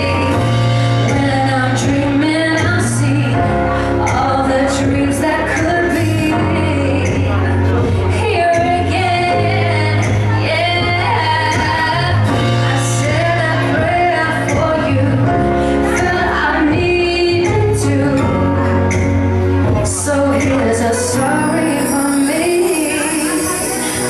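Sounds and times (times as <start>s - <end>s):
bass line: 0.0s - 24.0s
woman singing: 0.0s - 24.0s.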